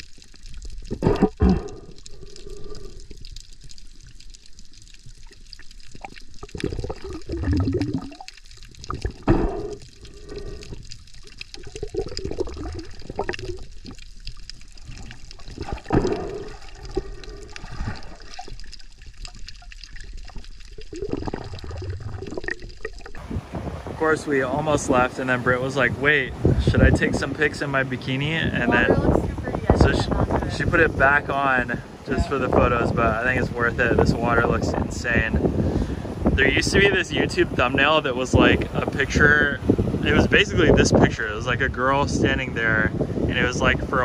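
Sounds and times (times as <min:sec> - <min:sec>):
underwater water sloshing: 0:00.0 - 0:42.4.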